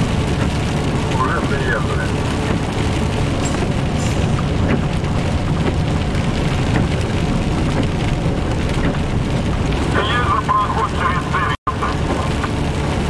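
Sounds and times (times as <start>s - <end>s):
truck engine rumble: 0.0s - 13.0s
tyre noise on wet road: 0.0s - 13.0s.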